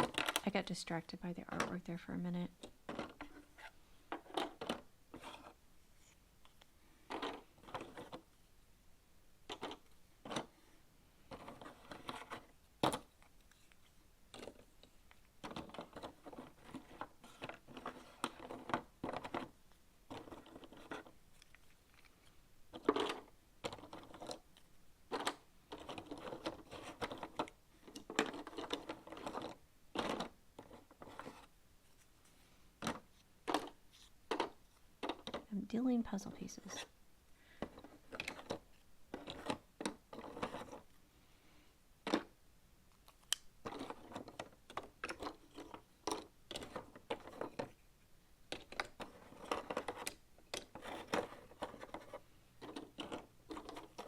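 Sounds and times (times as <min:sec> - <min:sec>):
puzzle pieces rustling and scraping: 0:00.0 - 0:00.8, 0:02.5 - 0:08.4, 0:09.5 - 0:10.6, 0:11.2 - 0:41.0, 0:42.9 - 0:54.0.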